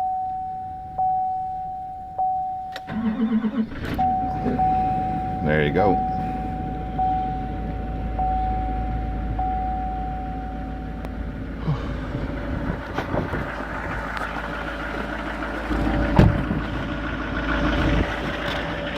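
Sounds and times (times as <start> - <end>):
diesel engine idling: 0.5 - 18.9.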